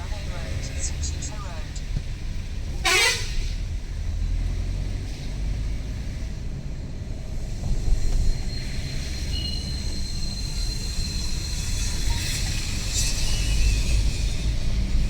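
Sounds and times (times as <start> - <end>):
vehicle driving in traffic: 0.0 - 15.0.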